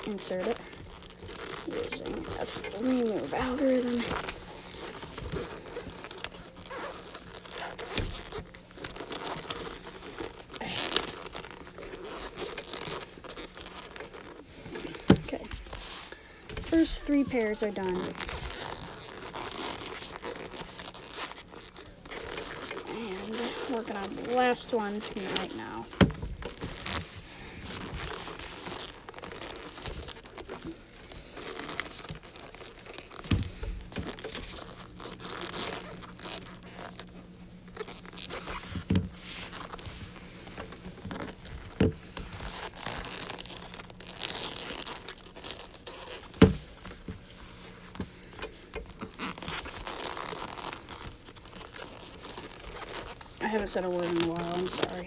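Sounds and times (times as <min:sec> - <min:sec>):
padded gloves rubbing: 0:00.0 - 0:55.0.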